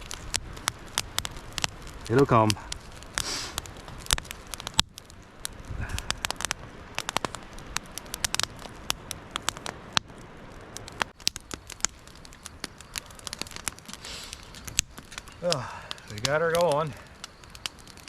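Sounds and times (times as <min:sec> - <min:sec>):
fire crackling and snapping: 0:00.0 - 0:18.0
low hiss of fire: 0:00.0 - 0:18.0.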